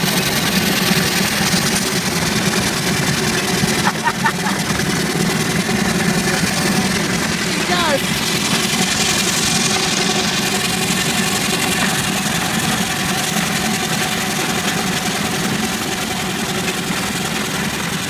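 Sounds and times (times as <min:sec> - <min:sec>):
steam traction engine running: 0:00.0 - 0:18.0.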